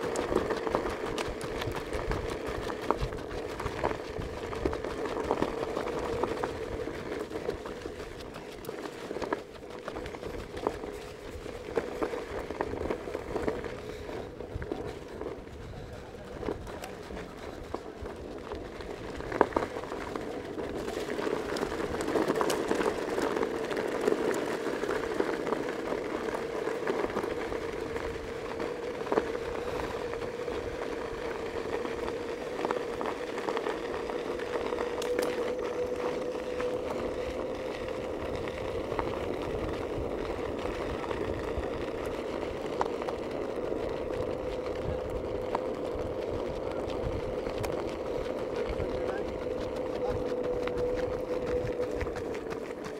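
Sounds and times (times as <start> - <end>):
road noise: 0.0 - 52.9
vehicle motor humming: 0.0 - 52.9.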